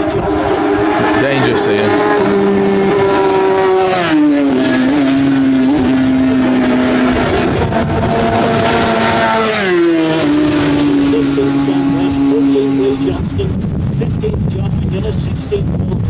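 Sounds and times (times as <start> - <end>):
racing motorcycle engine at high revs: 0.0 - 16.0.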